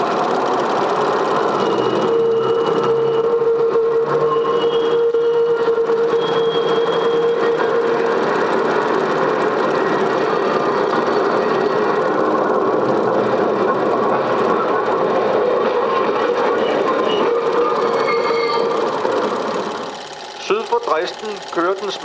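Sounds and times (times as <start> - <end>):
film projector clatter: 0.0 - 3.2, 5.7 - 22.0.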